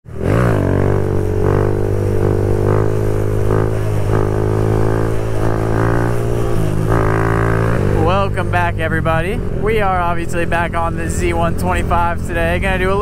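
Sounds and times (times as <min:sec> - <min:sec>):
motorcycle engine droning: 0:00.1 - 0:13.0.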